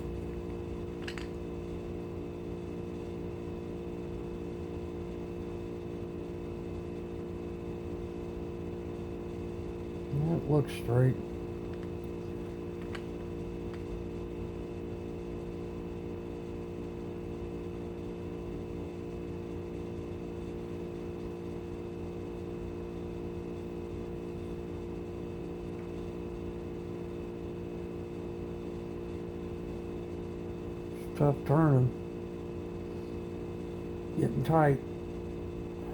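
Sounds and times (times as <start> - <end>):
steady electrical hum: 0.0 - 35.9.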